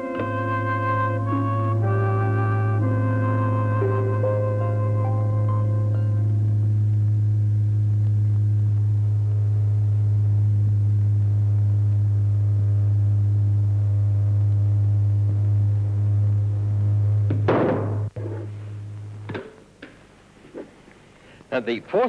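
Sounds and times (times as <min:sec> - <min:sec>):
deep steady electrical hum: 0:00.0 - 0:22.0.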